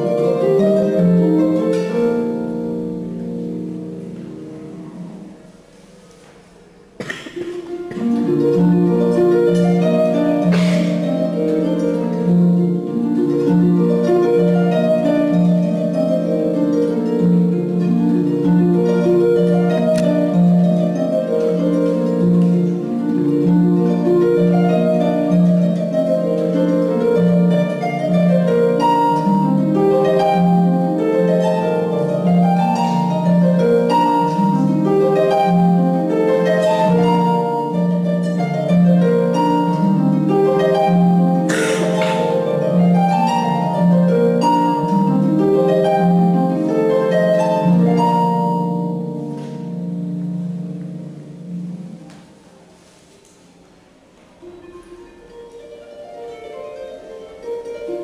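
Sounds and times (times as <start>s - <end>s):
harp playing classical piece: 0.0s - 58.0s.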